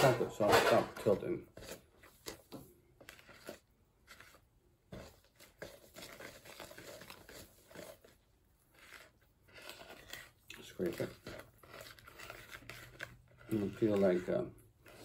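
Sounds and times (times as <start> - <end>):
spoon scraping in plastic bowl: 0.0 - 15.0.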